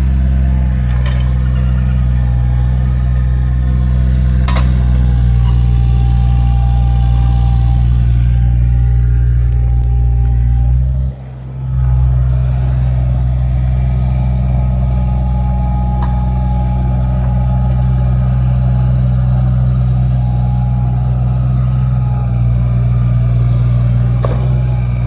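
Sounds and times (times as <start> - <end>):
diesel excavator engine running: 0.0 - 25.0.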